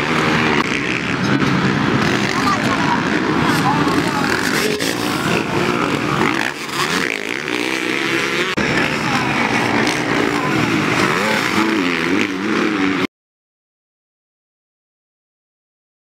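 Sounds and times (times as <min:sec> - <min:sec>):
motorcycle engines revving: 0:00.0 - 0:13.1.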